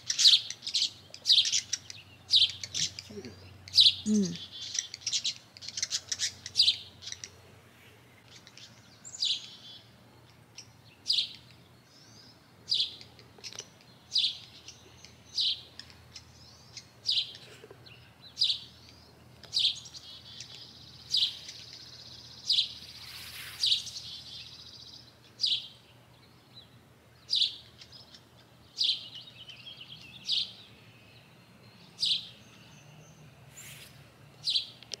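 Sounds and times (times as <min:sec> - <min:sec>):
small songbird chirping: 0:00.0 - 0:35.0.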